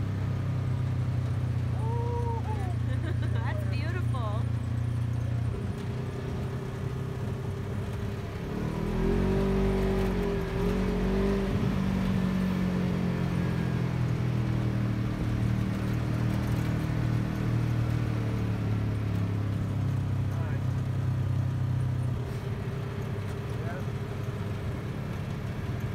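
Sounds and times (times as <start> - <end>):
vehicle engine revving: 0.0 - 25.9.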